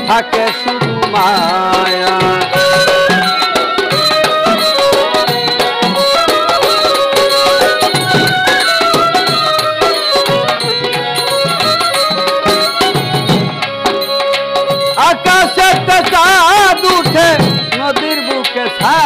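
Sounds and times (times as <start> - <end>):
hand drum rhythm: 0.0 - 19.0
violin melody: 0.0 - 19.0.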